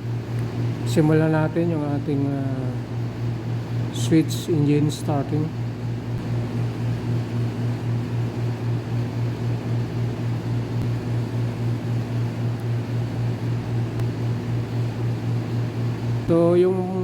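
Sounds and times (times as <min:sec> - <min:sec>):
air compressor pulsing hum: 0:00.0 - 0:17.0.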